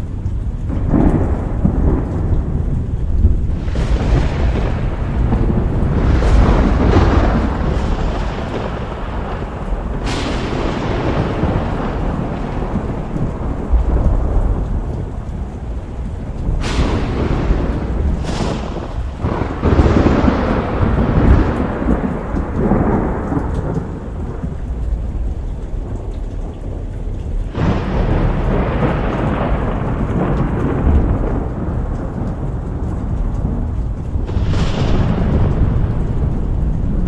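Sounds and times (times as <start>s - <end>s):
steady rain: 0.0s - 37.0s
thunder claps rumbling: 0.0s - 37.0s.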